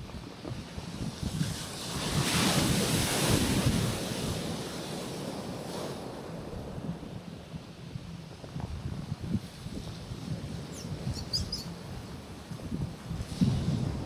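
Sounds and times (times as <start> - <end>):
waves washing onto rocky shore: 0.0 - 10.8, 11.8 - 14.0
wind buffeting microphone: 0.0 - 14.0.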